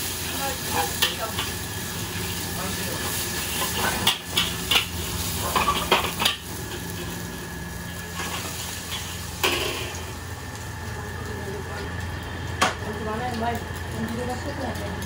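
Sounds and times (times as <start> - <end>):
low sizzle: 0.0 - 15.0.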